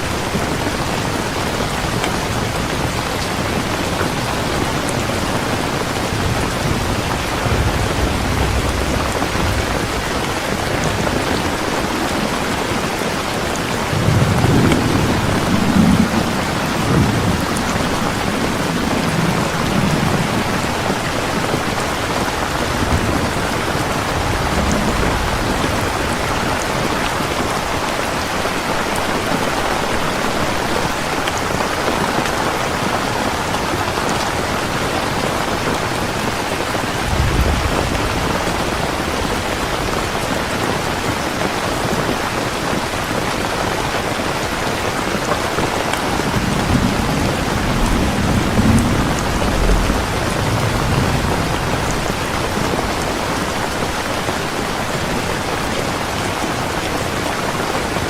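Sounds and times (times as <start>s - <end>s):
thunder rumbling: 0.0s - 57.2s
rain hiss: 0.0s - 58.0s.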